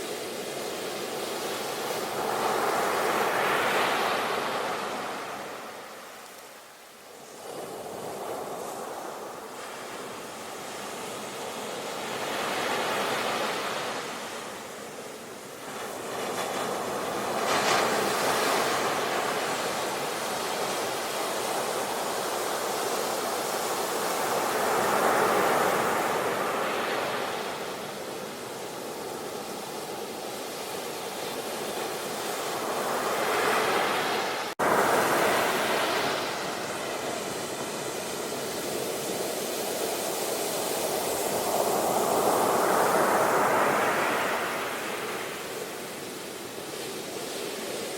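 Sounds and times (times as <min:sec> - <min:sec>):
sea waves washing onto shore: 0:00.0 - 0:47.9.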